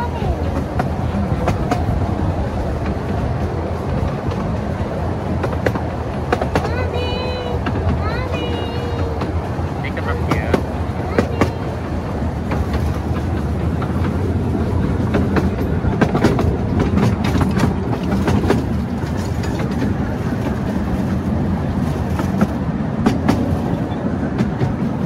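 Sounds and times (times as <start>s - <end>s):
train wheels rumbling on rail: 0.0s - 25.0s
wheels clicking over rail joints: 0.0s - 25.0s.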